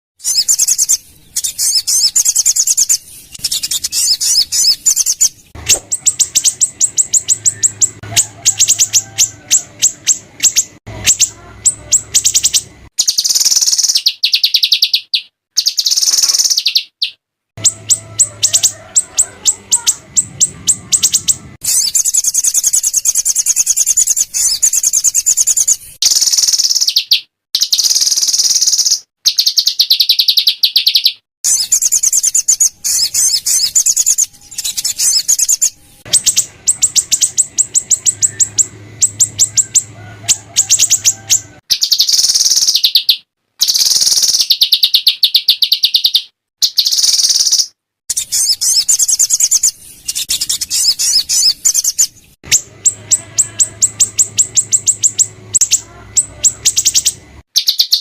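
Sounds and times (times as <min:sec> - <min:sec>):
songbirds trilling: 0:00.2 - 0:58.0.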